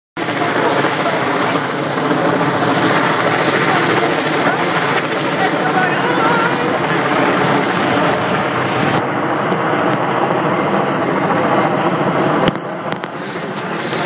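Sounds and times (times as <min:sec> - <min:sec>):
helicopter rotor and engine: 0:00.2 - 0:14.0.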